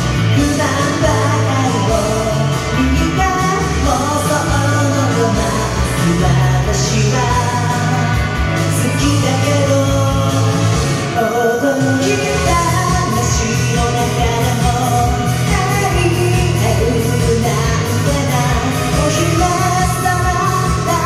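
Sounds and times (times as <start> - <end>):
man singing: 0.0 - 21.0
pop-rock karaoke backing track: 0.0 - 21.0.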